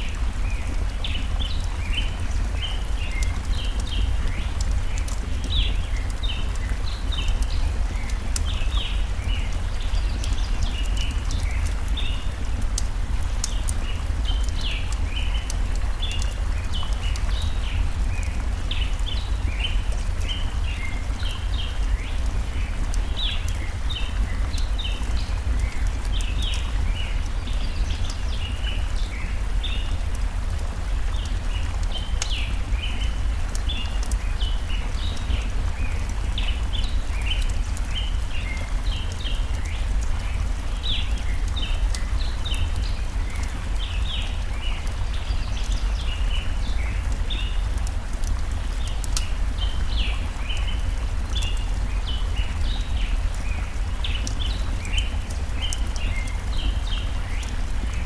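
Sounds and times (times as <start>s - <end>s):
small birds chirping: 0.0s - 30.2s, 30.9s - 58.0s
campfire crackling: 0.0s - 58.0s
stream rushing: 0.0s - 58.0s.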